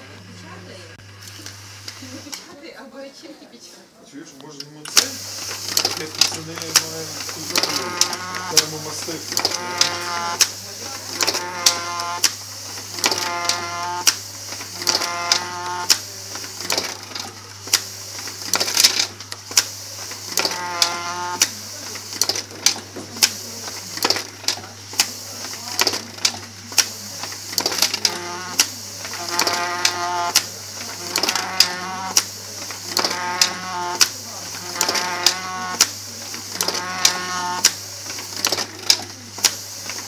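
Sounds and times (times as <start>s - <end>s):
machine humming and clicking: 0.0s - 2.5s, 4.4s - 40.0s.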